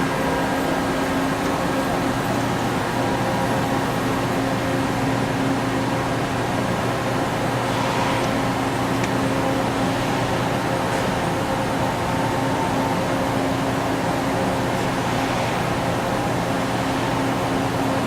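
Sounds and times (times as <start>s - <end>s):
boring mill humming: 0.0s - 18.0s.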